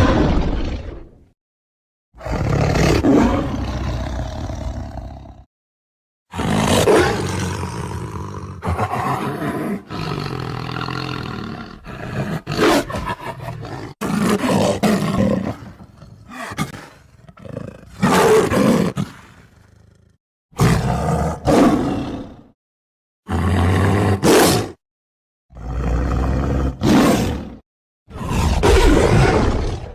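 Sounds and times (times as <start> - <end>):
tiger roaring and growling: 0.0 - 1.2, 2.2 - 5.5, 6.3 - 22.6, 23.3 - 24.8, 25.5 - 29.9.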